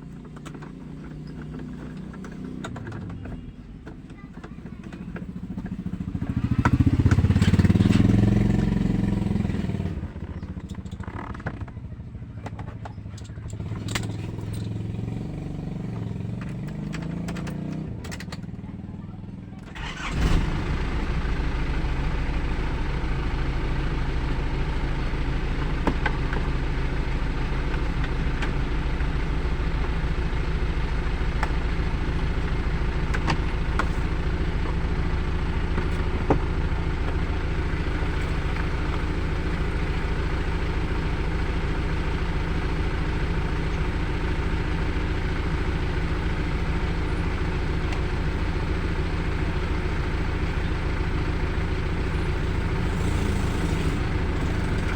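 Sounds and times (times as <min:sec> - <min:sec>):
car engine starting and idling: 0:00.0 - 0:54.9.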